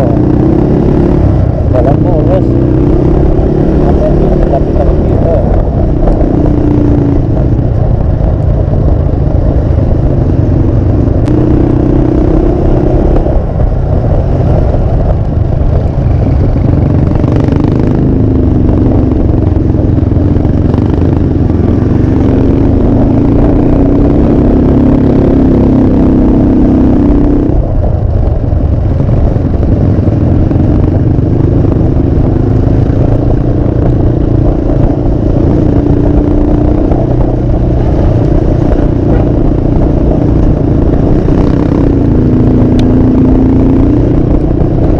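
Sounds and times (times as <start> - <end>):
motorcycle engine running: 0.0 - 44.9
wind rumble on microphone: 0.0 - 44.9.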